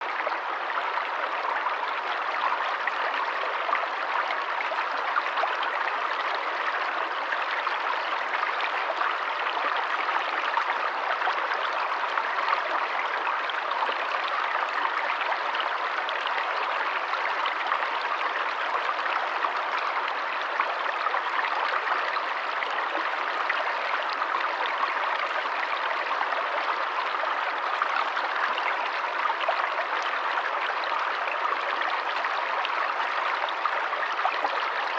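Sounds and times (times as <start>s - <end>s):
stream babbling over stones: 0.0s - 34.9s.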